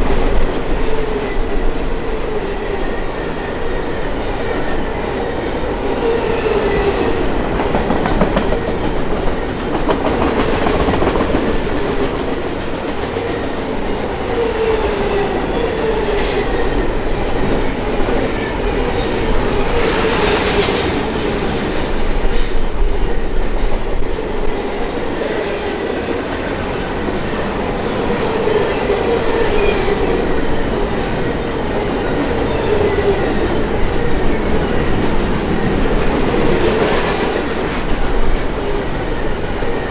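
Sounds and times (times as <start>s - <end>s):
train wheels clacking: 0.0s - 39.9s.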